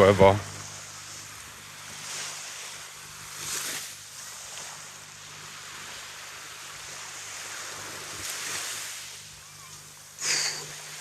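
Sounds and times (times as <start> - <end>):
waves washing onto beach: 0.0 - 11.0.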